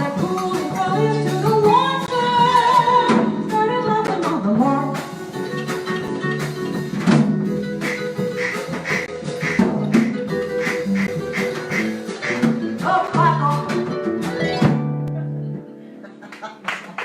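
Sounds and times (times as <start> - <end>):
plucked strings: 0.0 - 15.8.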